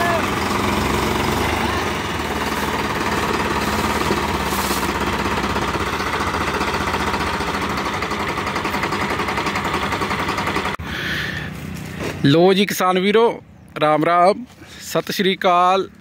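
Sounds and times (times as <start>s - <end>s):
tractor diesel engine running: 0.0s - 12.8s.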